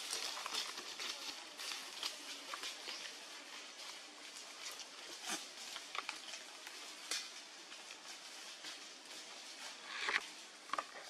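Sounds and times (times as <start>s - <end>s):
forest background hiss: 0.0s - 11.0s
rustling of dry leaves: 0.0s - 11.0s.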